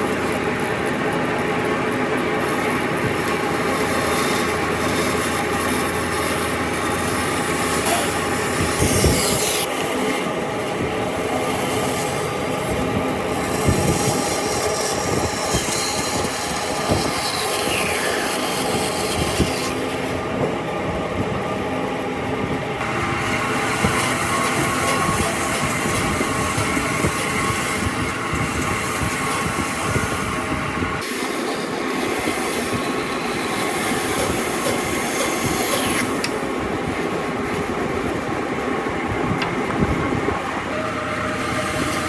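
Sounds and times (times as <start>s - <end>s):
woodworking power tool running: 0.0s - 42.0s.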